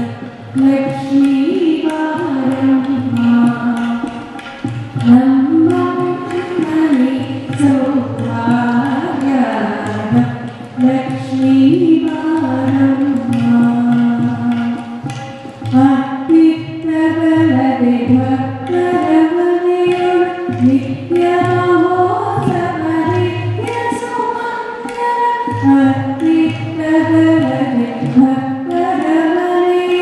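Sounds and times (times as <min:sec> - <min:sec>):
instrumental accompaniment: 0:00.0 - 0:30.0
person singing devotional melody: 0:00.0 - 0:30.0.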